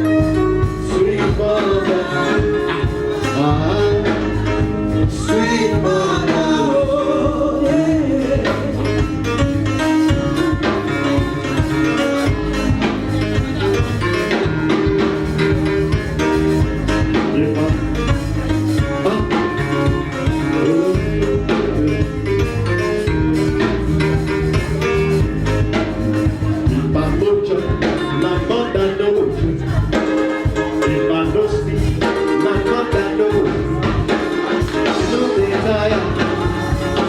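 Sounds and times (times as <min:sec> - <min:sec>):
band with guitar bass and drums: 0:00.0 - 0:37.0.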